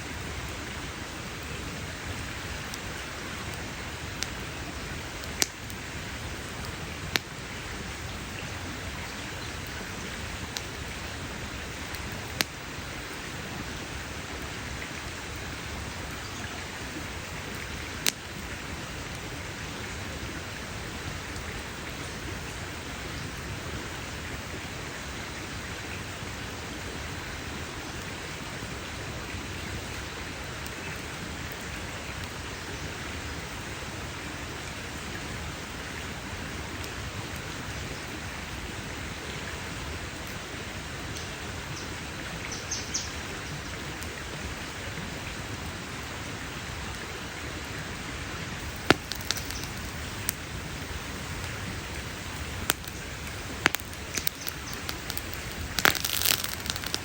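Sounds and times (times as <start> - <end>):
campfire hissing and popping: 0.0 - 57.0.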